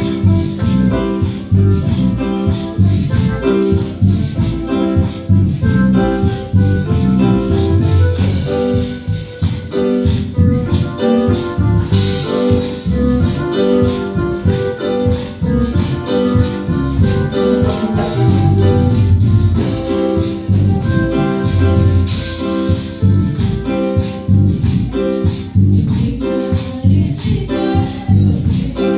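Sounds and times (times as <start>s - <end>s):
instrumental praise music: 0.0s - 28.9s.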